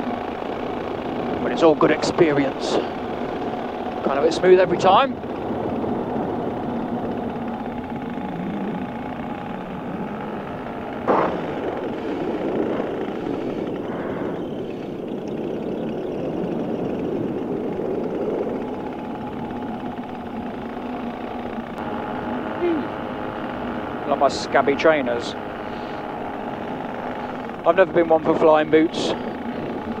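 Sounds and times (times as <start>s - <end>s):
paramotor engine running: 0.0s - 30.0s.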